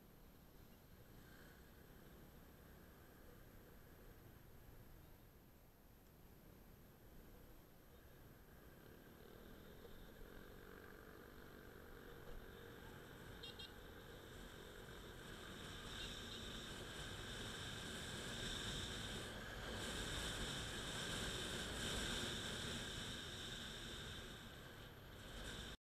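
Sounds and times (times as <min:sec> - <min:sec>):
wind and road noise: 0:00.0 - 0:25.8.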